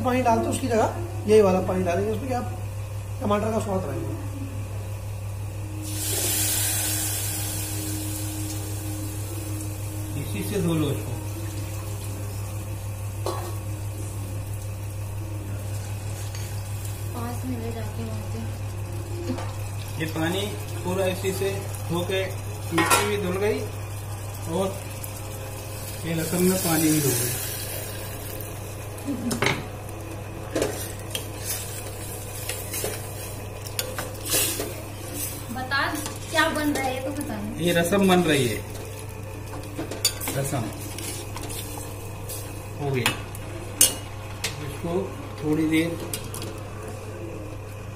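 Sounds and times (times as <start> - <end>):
gas stove hiss: 4.9 - 47.9.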